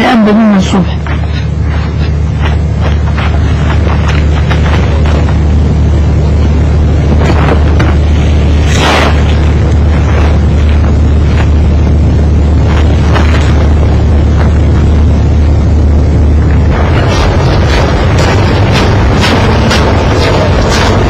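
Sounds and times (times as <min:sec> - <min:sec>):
loud low rumble: 0:00.0 - 0:21.0.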